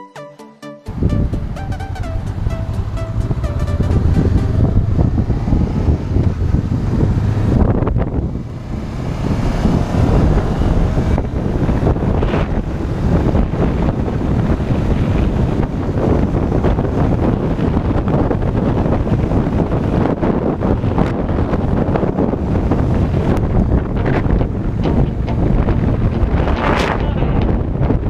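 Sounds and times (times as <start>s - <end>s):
motorcycle engine: 0.9s - 28.0s
wind buffeting microphone: 0.9s - 28.0s.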